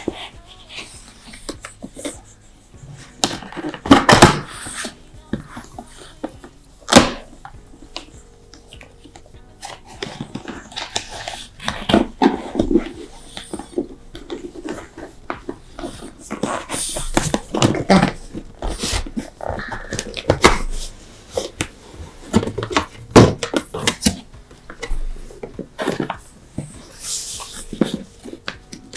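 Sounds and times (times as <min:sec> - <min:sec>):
dog sniffing: 0:00.0 - 0:24.1, 0:25.2 - 0:28.9
background music: 0:00.0 - 0:28.9.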